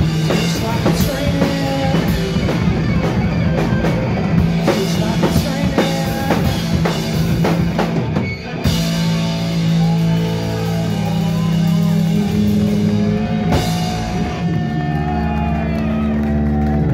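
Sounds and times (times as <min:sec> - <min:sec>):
rock band playing loud: 0:00.0 - 0:16.9.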